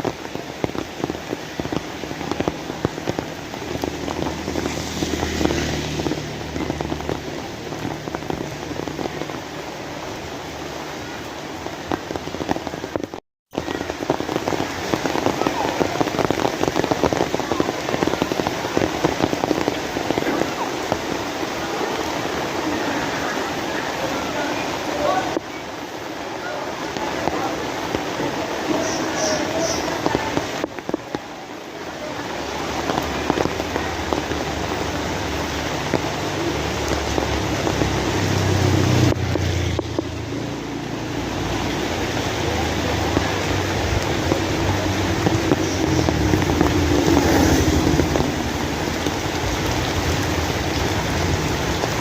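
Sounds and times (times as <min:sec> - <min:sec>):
rain drops hitting hard surface: 0:00.0 - 0:52.0
rain hiss: 0:00.0 - 0:52.0.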